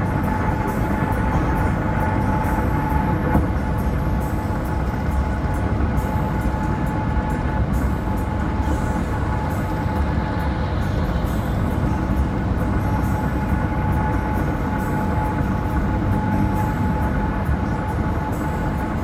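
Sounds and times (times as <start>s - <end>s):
thin steady whine: 0.0s - 19.0s
tyre and engine rumble: 0.0s - 19.0s.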